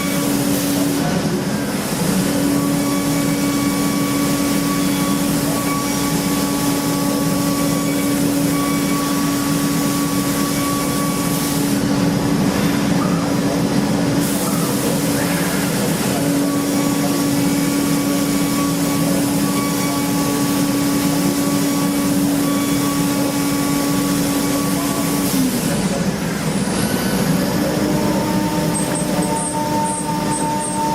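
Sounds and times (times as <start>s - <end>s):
hiss of metal cutting: 0.0s - 30.9s
machine spindle tone: 0.0s - 30.9s.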